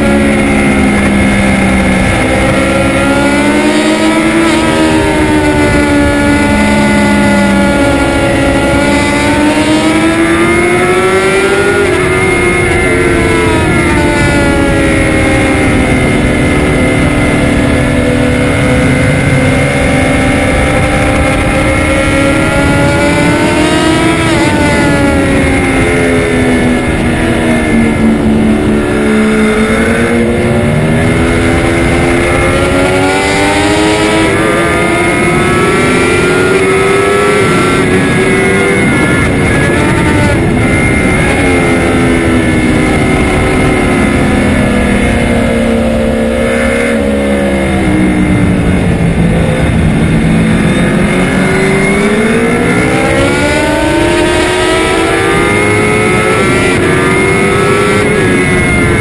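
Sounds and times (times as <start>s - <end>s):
motorbike engine revving: 0.0s - 59.0s
wind rush: 0.0s - 59.0s.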